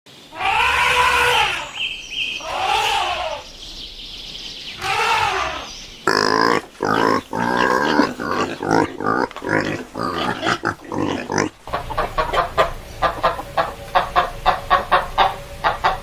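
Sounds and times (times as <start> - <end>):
harsh animal calls: 0.1 - 3.7, 4.7 - 16.0
animal drawn-out cries: 0.3 - 3.6, 4.8 - 16.0.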